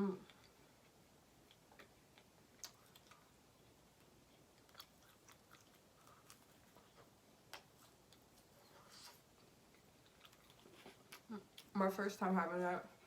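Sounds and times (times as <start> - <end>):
person chewing food: 0.2 - 11.7.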